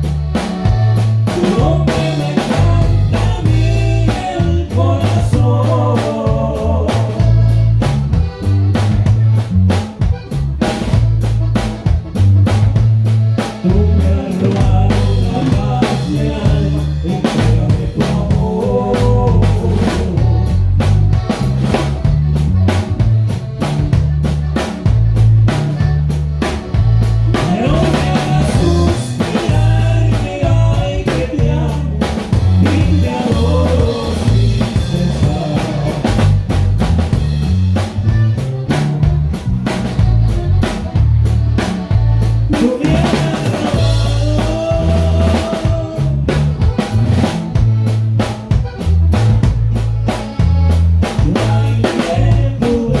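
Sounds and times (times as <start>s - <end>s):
bass line: 0.0s - 53.0s
drum kit beat: 0.0s - 53.0s
norteno band music: 0.0s - 53.0s.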